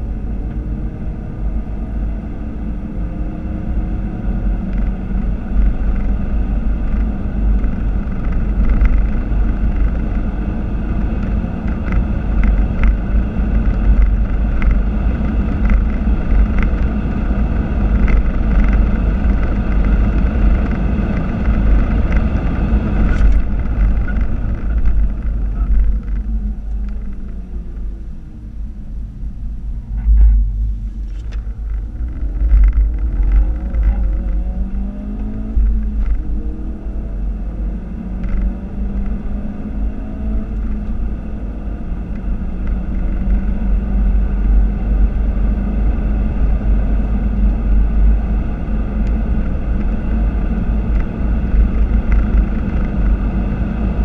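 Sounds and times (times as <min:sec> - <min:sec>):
car engine revving: 0:00.0 - 0:54.0
road and wind rumble: 0:00.0 - 0:54.0.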